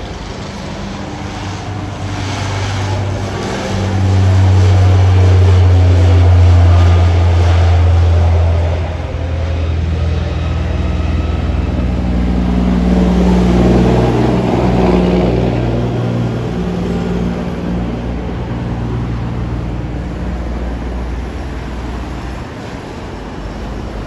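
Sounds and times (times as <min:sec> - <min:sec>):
engine droning hum: 0:00.0 - 0:24.0.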